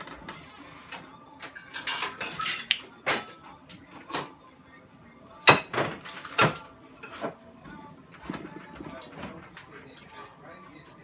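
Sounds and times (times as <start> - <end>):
dishes and utensils clinking: 0.0 - 4.4, 5.4 - 11.0.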